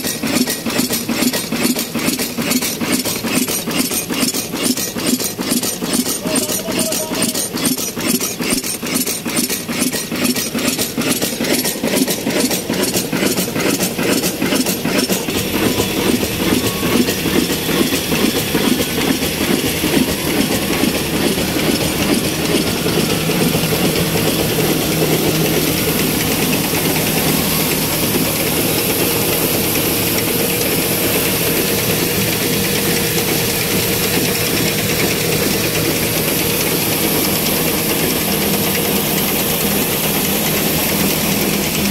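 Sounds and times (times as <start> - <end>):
diesel engine driving belts: 0.0 - 41.9.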